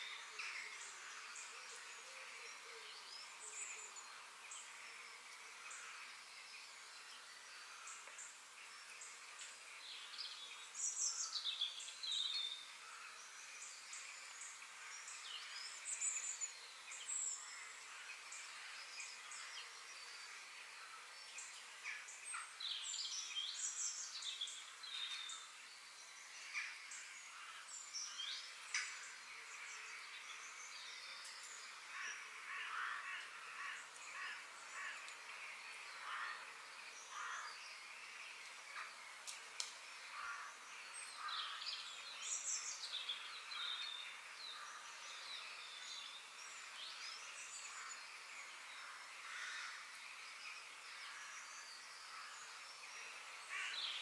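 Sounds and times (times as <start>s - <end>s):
forest ambience hiss: 0.0s - 54.0s
songbirds chirping and singing: 0.0s - 54.0s.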